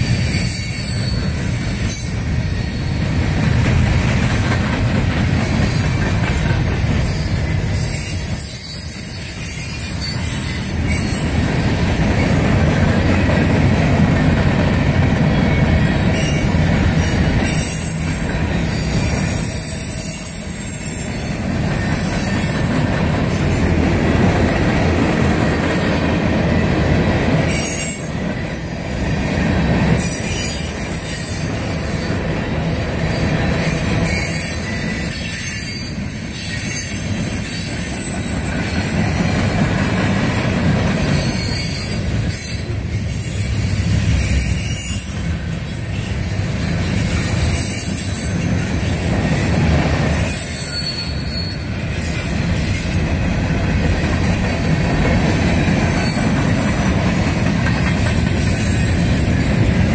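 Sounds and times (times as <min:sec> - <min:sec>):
high wheel squeal: 0:00.0 - 0:03.5, 0:05.5 - 0:13.4, 0:15.2 - 0:25.8, 0:27.2 - 0:39.9, 0:40.8 - 0:59.9
steel wheels clattering on rails: 0:00.0 - 0:59.9.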